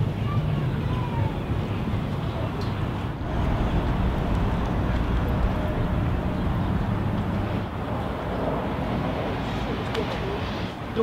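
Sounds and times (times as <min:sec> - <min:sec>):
passing traffic rumble: 0:00.0 - 0:11.0.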